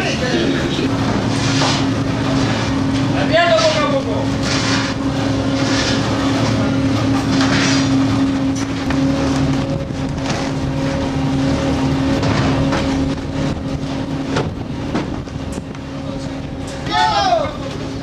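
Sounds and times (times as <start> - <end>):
boat machinery drone: 0.0 - 18.0.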